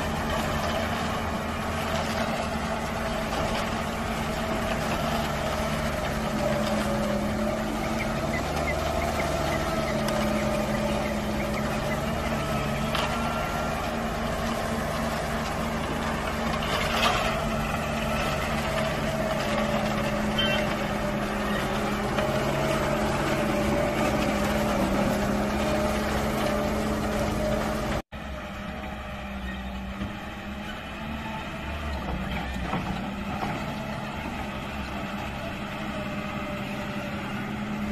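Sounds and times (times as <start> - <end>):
diesel engine running under load: 0.0 - 37.9.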